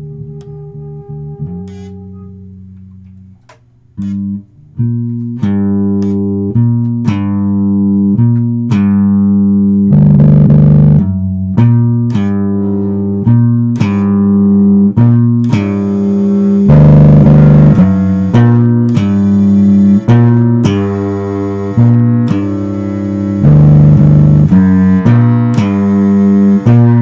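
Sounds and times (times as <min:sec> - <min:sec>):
plucked electric bass notes: 0:00.0 - 0:27.0
plucked guitar notes: 0:00.0 - 0:27.0.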